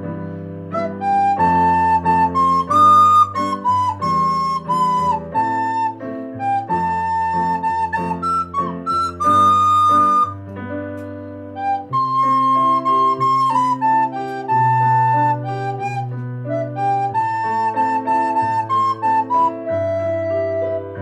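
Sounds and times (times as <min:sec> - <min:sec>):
soprano recorder melody: 0:00.0 - 0:21.0.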